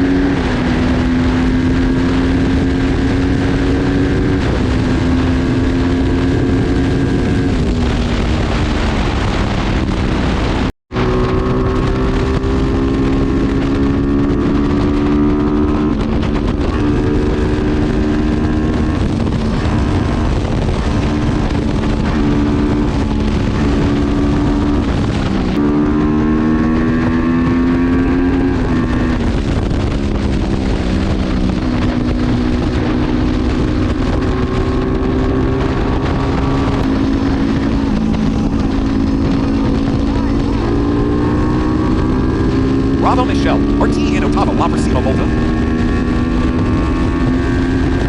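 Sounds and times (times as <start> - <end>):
motorcycle engine accelerating: 0.0 - 48.0
wind on microphone: 0.0 - 48.0.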